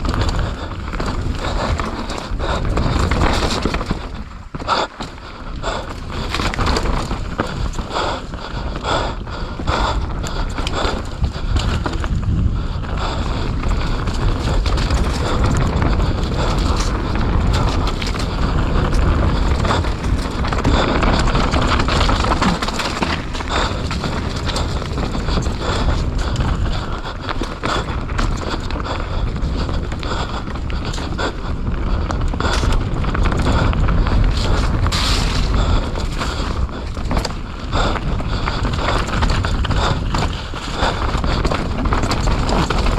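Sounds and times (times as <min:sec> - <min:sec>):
bike rattling over bumps: 0:00.0 - 0:42.9
rush of tyres and air: 0:00.0 - 0:42.9.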